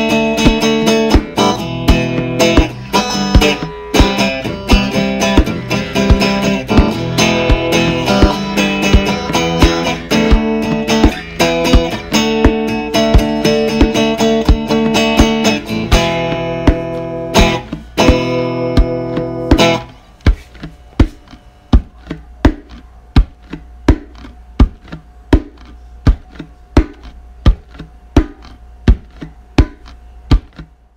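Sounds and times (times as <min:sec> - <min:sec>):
electric guitar strumming chords: 0:00.0 - 0:30.2
percussive beat: 0:00.0 - 0:30.8.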